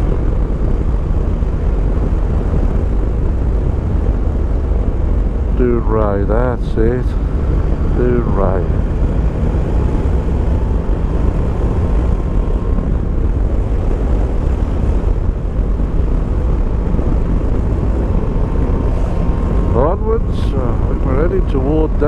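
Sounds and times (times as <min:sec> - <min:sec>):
faint steady whine: 0:00.0 - 0:22.0
wind rushing over microphone: 0:00.0 - 0:22.0.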